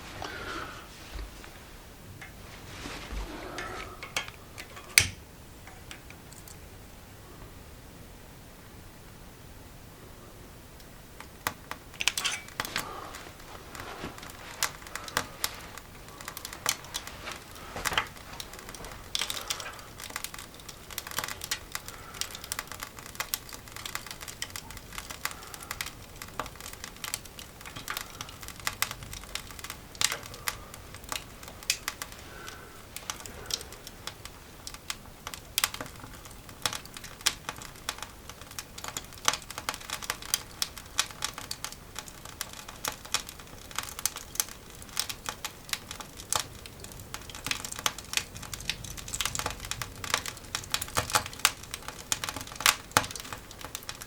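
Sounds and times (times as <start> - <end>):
paper and kindling crinkling: 0.0 - 5.0, 11.7 - 54.0.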